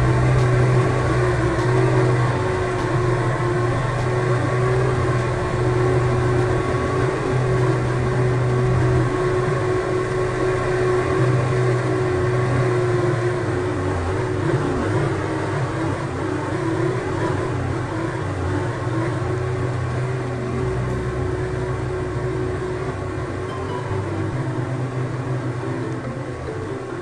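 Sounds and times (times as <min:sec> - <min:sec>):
electric fan running: 0:00.0 - 0:27.0.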